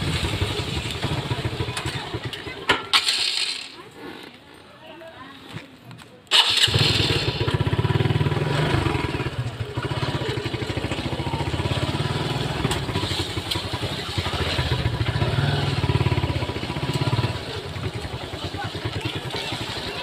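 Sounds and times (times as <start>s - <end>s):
motorcycle engine at low revs: 0.0s - 3.7s, 6.4s - 20.0s.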